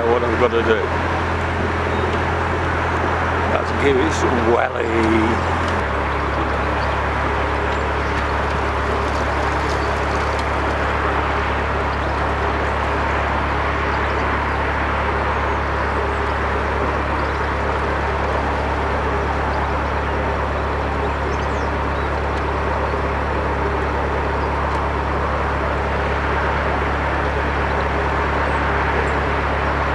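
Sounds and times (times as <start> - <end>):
boat diesel engine running: 0.0 - 29.9.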